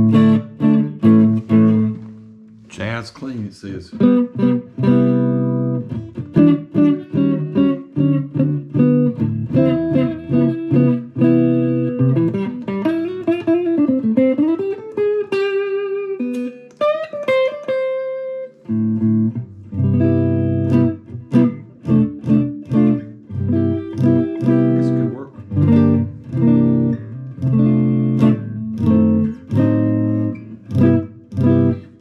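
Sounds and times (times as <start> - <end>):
clean electric guitar: 0.0 - 32.0.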